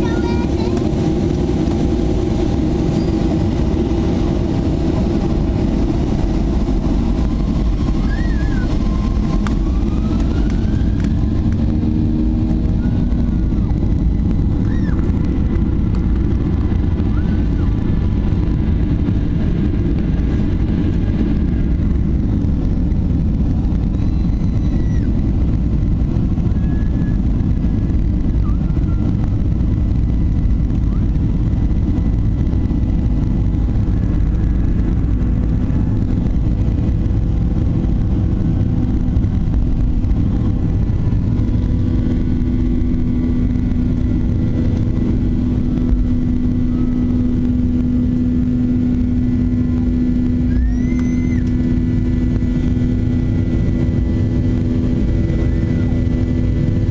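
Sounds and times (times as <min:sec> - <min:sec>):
jet engine rumble: 0:00.0 - 0:56.9.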